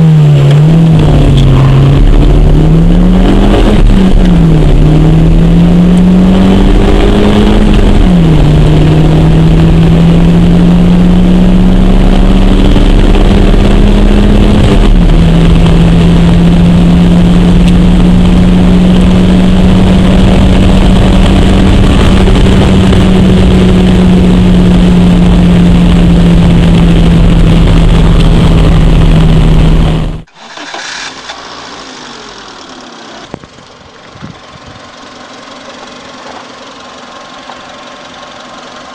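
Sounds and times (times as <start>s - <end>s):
car engine at full throttle: 0.0s - 38.9s.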